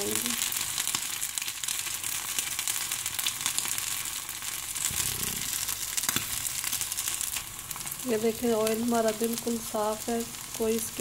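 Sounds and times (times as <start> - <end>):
potato patties sizzling in oil: 0.0 - 11.0.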